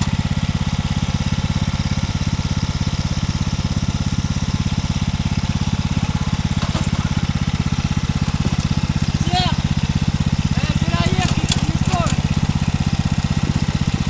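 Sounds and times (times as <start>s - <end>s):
lawn mower engine idling: 0.0s - 14.0s.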